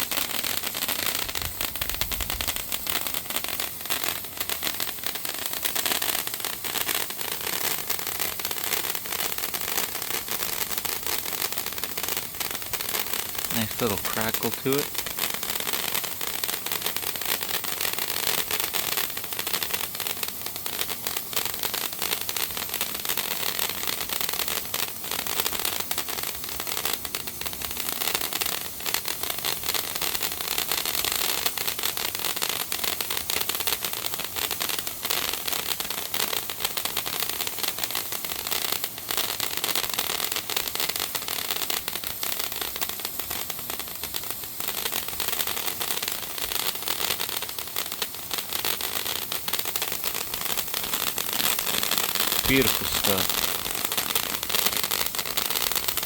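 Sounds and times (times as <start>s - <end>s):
firework hissing and crackling: 0.0s - 56.0s.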